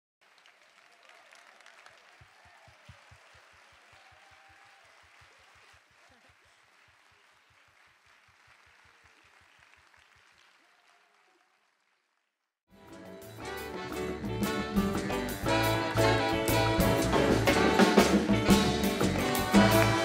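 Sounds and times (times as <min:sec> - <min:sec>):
distant audience applause: 0:00.2 - 0:12.3, 0:14.4 - 0:20.0.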